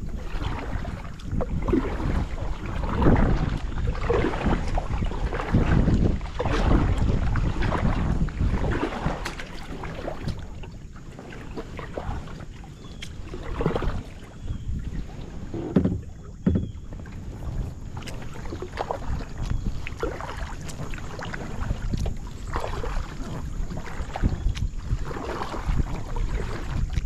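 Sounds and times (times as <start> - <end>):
water sloshing around kayak: 0.0 - 27.0
wind rumble on microphone: 0.0 - 27.0.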